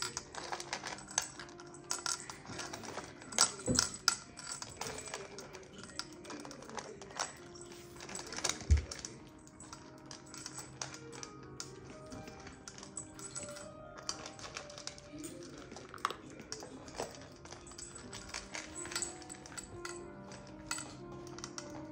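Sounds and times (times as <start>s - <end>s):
dog crunching kibble: 0.0s - 21.9s.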